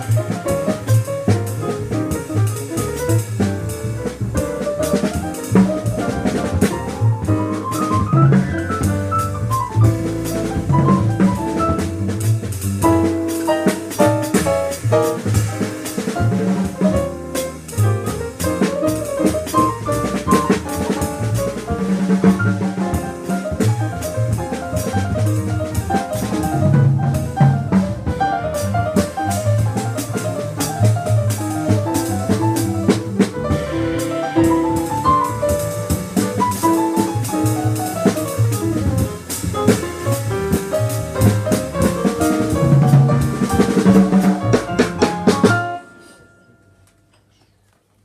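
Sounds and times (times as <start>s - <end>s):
upright double bass: 0.0s - 45.8s
drum kit with cymbals: 0.0s - 46.2s
grand piano: 0.0s - 47.2s.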